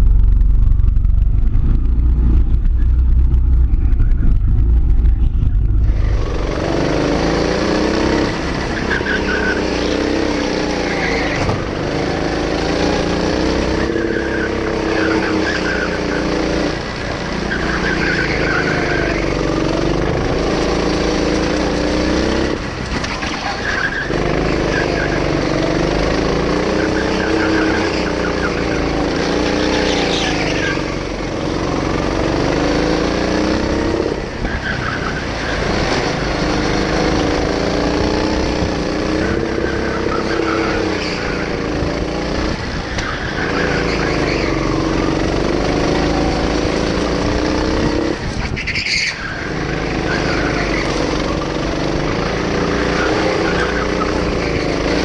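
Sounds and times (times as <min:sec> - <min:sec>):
go-kart engine accelerating: 0:00.0 - 0:55.0.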